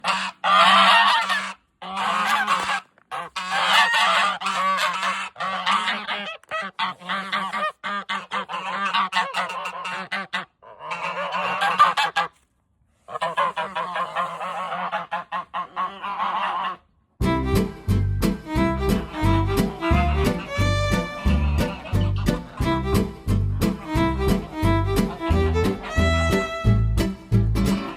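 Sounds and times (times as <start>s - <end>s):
geese honking: 0.0s - 12.4s, 13.1s - 16.8s, 18.4s - 26.9s, 27.7s - 27.9s.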